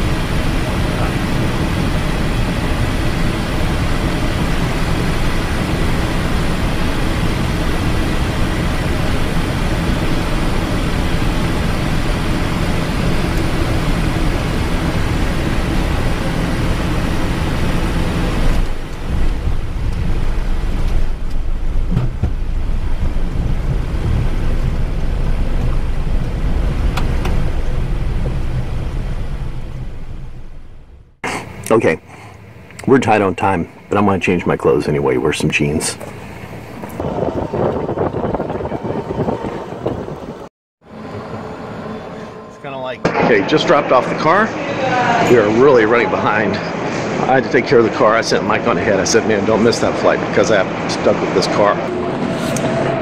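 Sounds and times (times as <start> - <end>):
jet airflow and engine rush: 0.0 - 53.0
jet rolling on runway rumble: 0.0 - 53.0.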